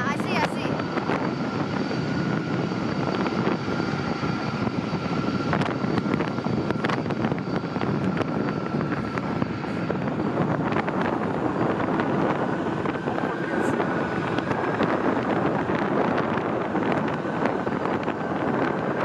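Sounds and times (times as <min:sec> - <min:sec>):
high whine: 0:00.0 - 0:19.0
jet engines rumbling: 0:00.0 - 0:19.0.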